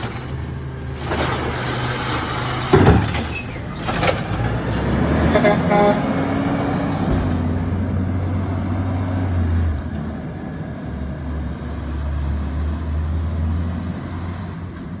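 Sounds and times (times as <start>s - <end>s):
garbage truck engine droning: 0.0s - 15.0s.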